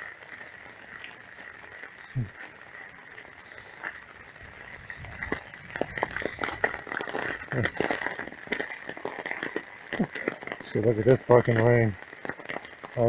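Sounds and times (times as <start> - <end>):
heavy rain falling: 0.0 - 13.0
raindrops ticking: 0.0 - 13.0.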